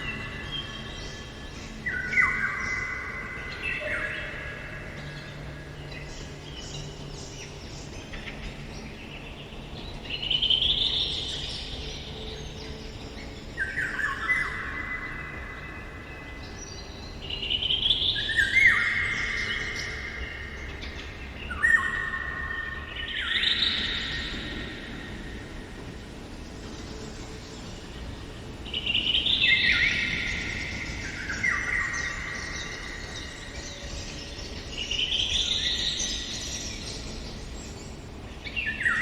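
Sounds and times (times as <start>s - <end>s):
fluty whistled bird song: 0.0s - 26.0s, 26.6s - 39.0s
songbirds singing: 0.0s - 39.0s.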